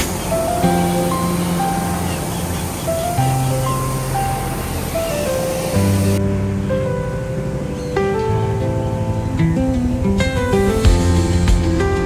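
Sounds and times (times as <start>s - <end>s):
slow melody over soft wash: 0.2s - 12.0s.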